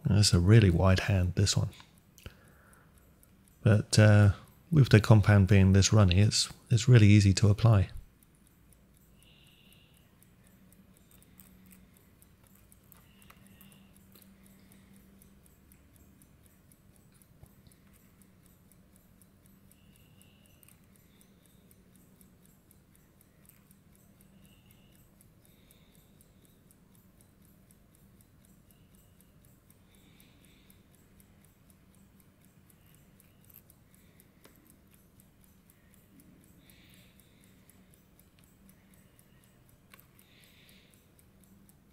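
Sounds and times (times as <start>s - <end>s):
faint steady hum: 0.0s - 41.9s
fast even ticking: 0.0s - 41.9s.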